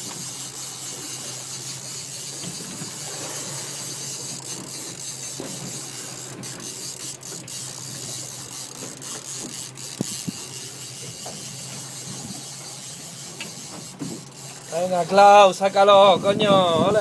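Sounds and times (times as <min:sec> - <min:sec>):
fishing reel ratcheting: 0:00.0 - 0:16.1
boat engine drone: 0:00.0 - 0:17.0.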